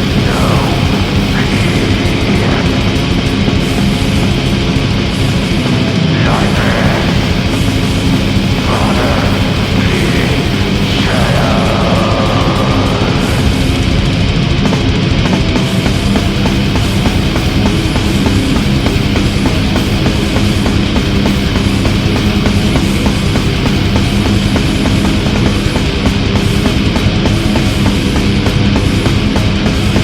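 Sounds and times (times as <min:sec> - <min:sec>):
heavy metal music: 0:00.0 - 0:30.0.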